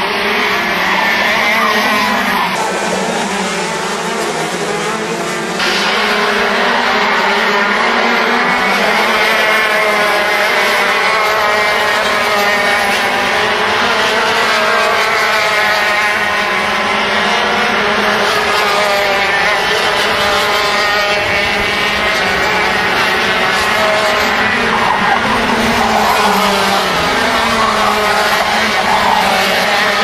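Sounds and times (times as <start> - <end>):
go-kart engines buzzing: 0.0 - 30.0.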